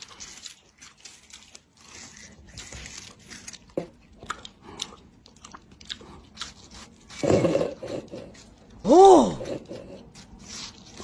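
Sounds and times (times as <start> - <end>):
crinkling and crunching: 0.0 - 11.0.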